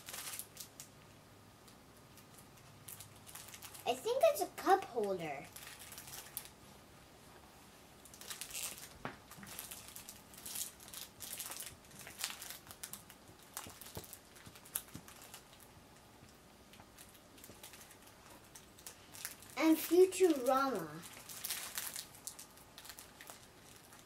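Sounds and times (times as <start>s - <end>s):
packaging crinkling and rustling: 0.0s - 0.9s, 2.0s - 6.6s, 8.0s - 24.0s.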